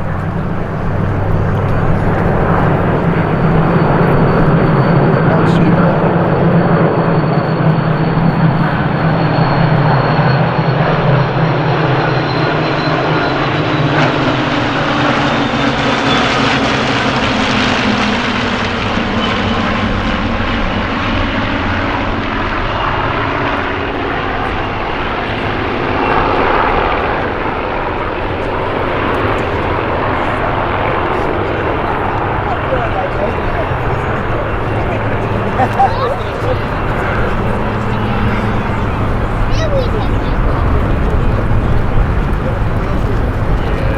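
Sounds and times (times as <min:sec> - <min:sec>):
propeller planes droning past: 0:00.0 - 0:43.9.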